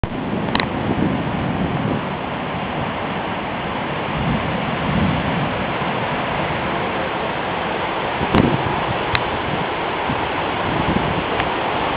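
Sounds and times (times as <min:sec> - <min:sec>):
wind blowing hard: 0:00.0 - 0:11.9
wind buffeting microphone: 0:00.0 - 0:11.9.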